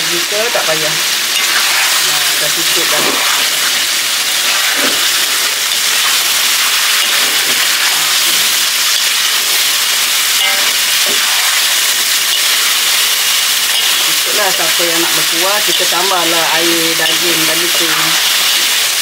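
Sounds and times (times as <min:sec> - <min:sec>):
meat sizzling in a wok: 0:00.0 - 0:19.0
metal spatula scraping wok: 0:01.2 - 0:18.7.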